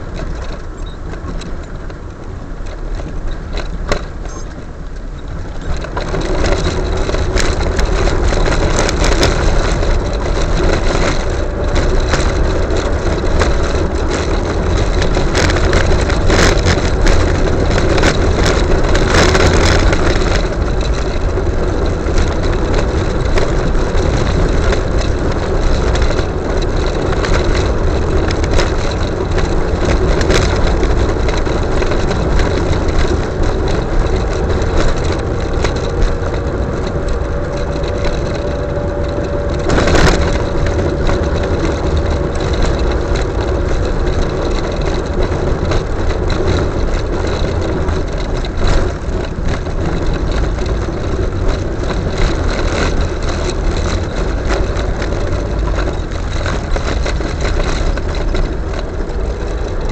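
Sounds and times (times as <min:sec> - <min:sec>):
car engine running: 0:00.0 - 0:59.9
small rattles and knocks: 0:00.0 - 0:59.9
tyre noise on road: 0:00.0 - 0:59.9.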